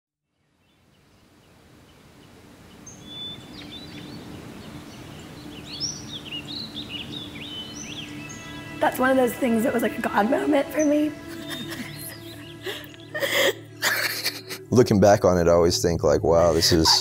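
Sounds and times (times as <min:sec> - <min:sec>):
birds chirping and twittering: 0:00.2 - 0:14.8.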